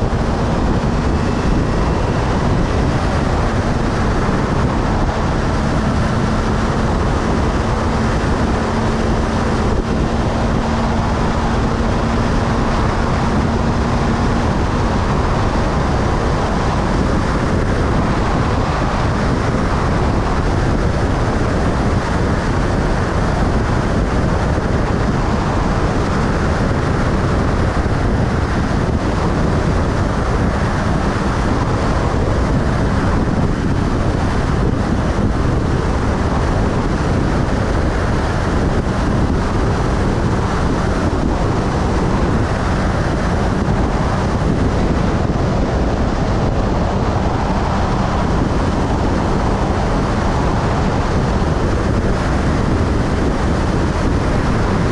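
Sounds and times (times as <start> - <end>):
motorcycle engine hum: 0.0 - 54.9
wind rushing on microphone: 0.0 - 54.9.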